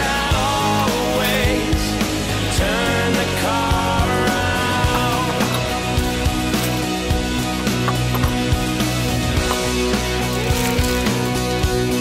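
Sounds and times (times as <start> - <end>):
pop-rock song: 0.0 - 12.0
steady drum beat: 0.0 - 12.0.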